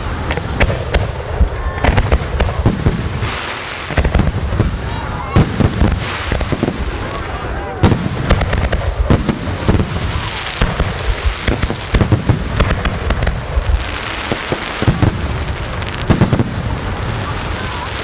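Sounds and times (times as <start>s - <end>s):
fireworks bangs and crackles: 0.0s - 18.0s
continuous crackle: 0.1s - 18.0s.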